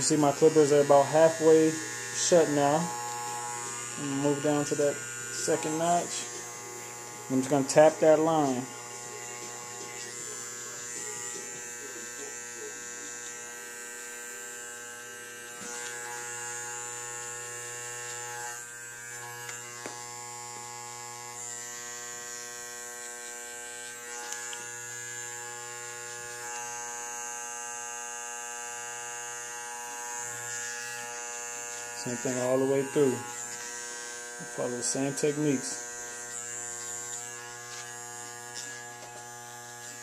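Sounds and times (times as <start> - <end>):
hair clippers buzzing: 0.0 - 40.0.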